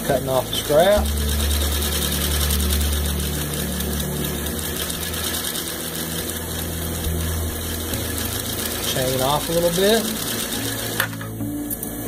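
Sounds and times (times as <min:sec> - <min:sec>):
serger sewing machine clattering: 0:00.0 - 0:11.2.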